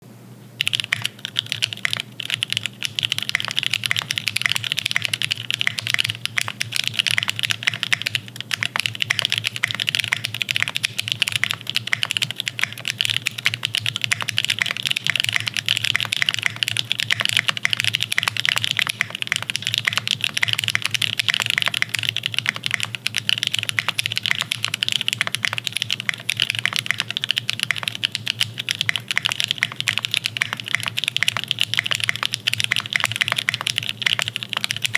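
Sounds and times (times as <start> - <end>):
fast typing on mechanical keyboard: 0.6 - 34.9.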